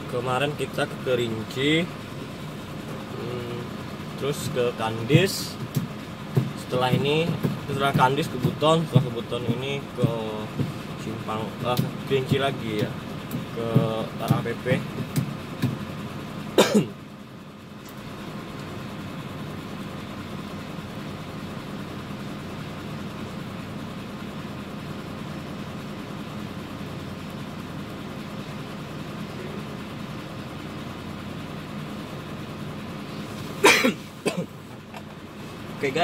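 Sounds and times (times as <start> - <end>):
truck engine idling: 0.0 - 36.0.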